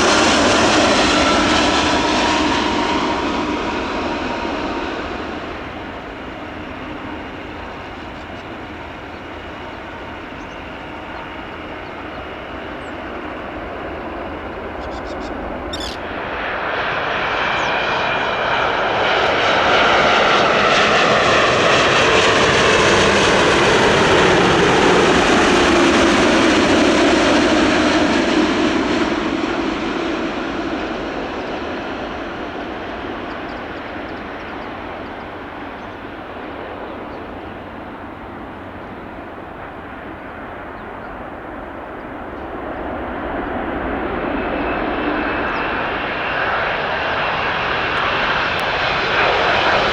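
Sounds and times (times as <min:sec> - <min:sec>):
jet airliner passing: 0:00.0 - 0:49.9.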